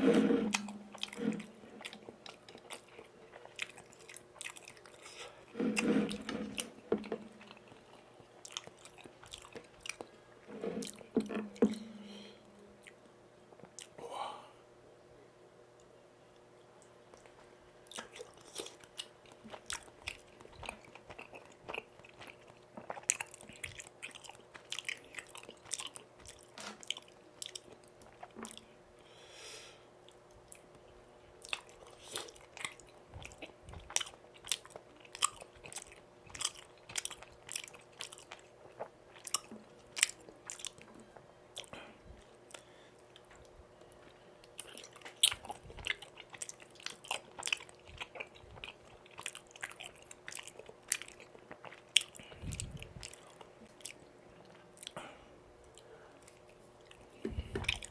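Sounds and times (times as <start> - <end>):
faint steady hum: 0.0 - 57.9
chewing and biting food: 0.5 - 10.2, 17.9 - 28.7, 30.1 - 40.9, 41.5 - 55.0, 55.6 - 57.9.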